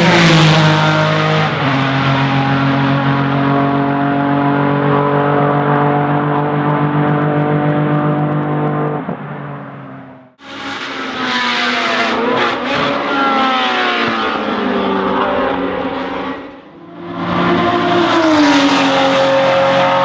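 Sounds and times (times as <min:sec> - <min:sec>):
racing engines at high revs: 0:00.0 - 0:09.2, 0:10.4 - 0:20.0
racing car engine: 0:00.0 - 0:20.0.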